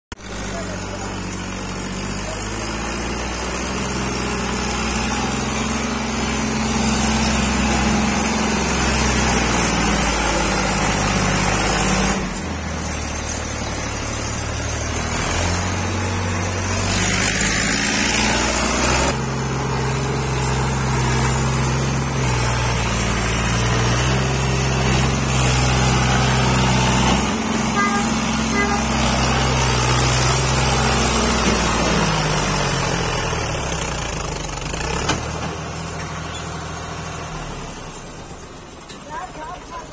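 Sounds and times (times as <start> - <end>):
tractor diesel engine under load: 0.1 - 39.9.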